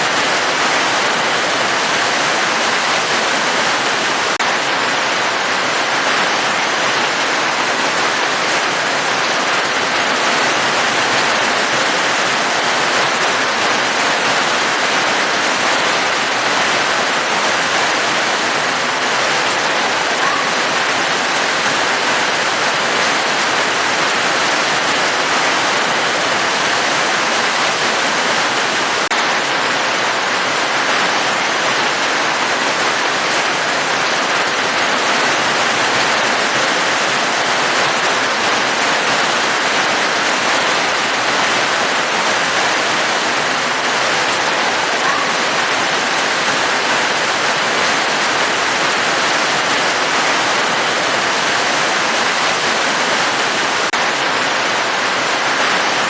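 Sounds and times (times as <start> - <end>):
falling water rushing: 0.0 - 56.0.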